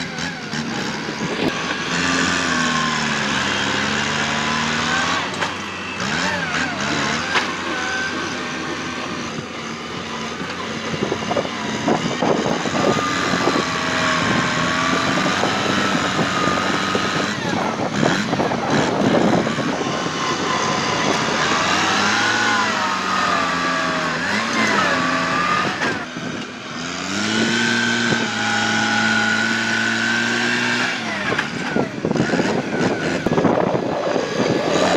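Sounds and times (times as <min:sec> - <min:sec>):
tractor diesel engine: 0:00.0 - 0:34.9.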